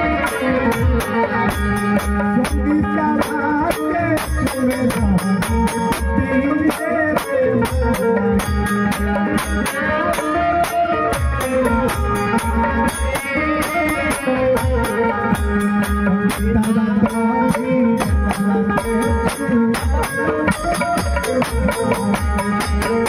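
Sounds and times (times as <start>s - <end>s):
jingling percussion: 0.0s - 23.0s
steady drum beat: 0.0s - 23.0s.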